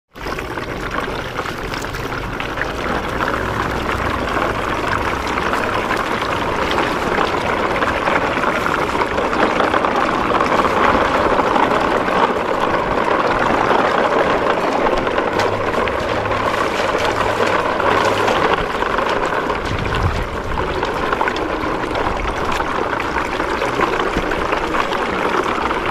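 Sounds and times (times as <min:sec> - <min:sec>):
plastic wheels rattling on concrete: 0:00.1 - 0:25.9.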